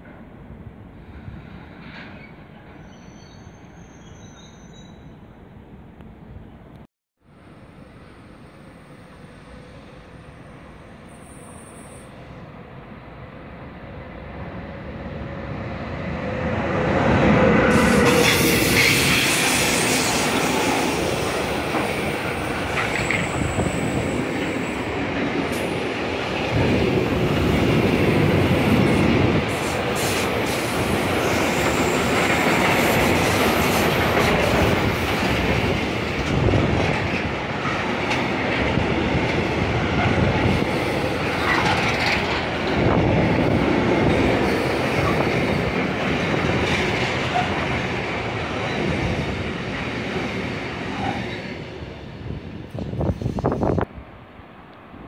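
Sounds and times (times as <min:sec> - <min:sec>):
freight train rolling past: 0:07.3 - 0:55.0.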